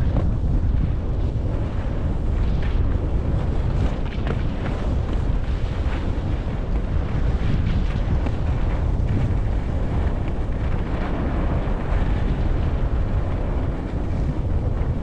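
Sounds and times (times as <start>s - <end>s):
skis scraping on packed snow: 0.0s - 14.9s
wind buffeting microphone: 0.0s - 15.0s.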